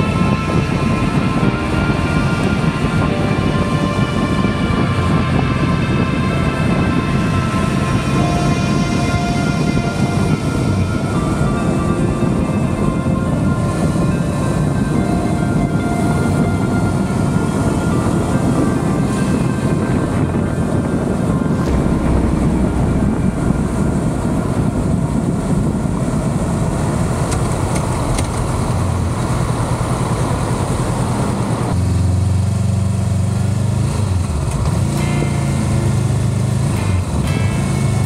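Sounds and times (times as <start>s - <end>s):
wind rush: 0.0s - 31.8s.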